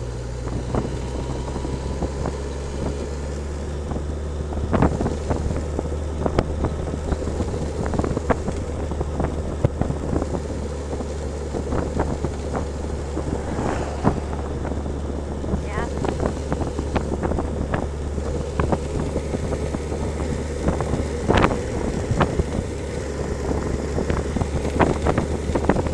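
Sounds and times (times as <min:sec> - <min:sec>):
vehicle running hum: 0:00.0 - 0:25.9
wind on microphone: 0:03.8 - 0:25.9.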